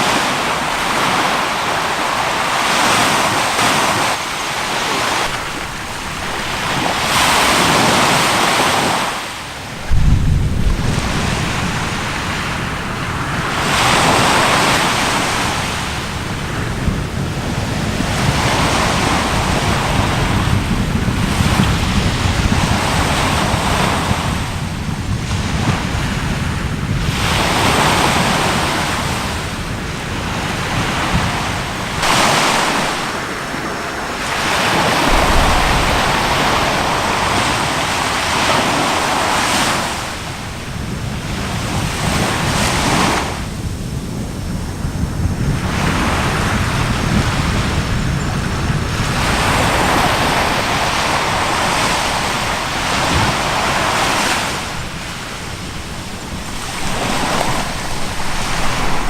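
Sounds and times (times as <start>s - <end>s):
sea waves washing in: 0.0s - 44.0s, 44.6s - 59.0s
wind buffeting microphone: 0.0s - 59.0s.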